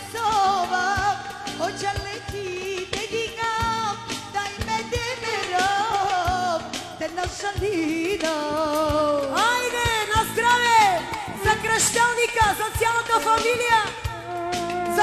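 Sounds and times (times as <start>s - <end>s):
amplified backing music: 0.0s - 15.0s
steady drum beat: 0.0s - 15.0s
woman singing into a microphone: 0.0s - 15.0s.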